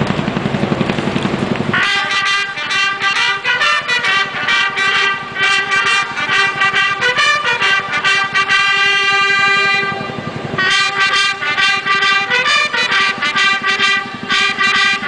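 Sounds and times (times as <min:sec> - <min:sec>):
bugle ensemble playing signal call: 0:01.7 - 0:15.0.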